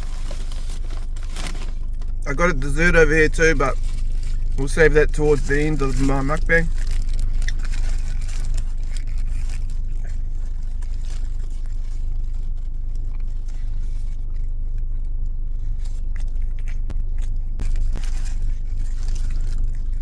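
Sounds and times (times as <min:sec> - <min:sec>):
food packaging clicks and scrapes: 0:00.0 - 0:14.4, 0:15.6 - 0:20.0
biting and chewing food: 0:00.0 - 0:20.0
low rumble: 0:00.0 - 0:20.0.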